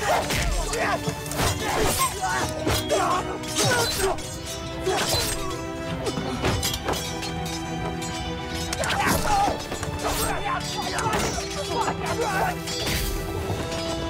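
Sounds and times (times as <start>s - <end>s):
swords clashing: 0.0s - 13.9s
dramatic music: 0.0s - 14.0s.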